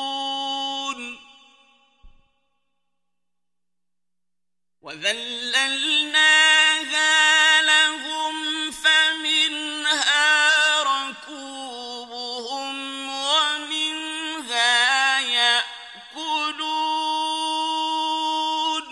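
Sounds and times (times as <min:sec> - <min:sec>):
man chanting melodically: 0:00.0 - 0:01.6, 0:04.8 - 0:18.9.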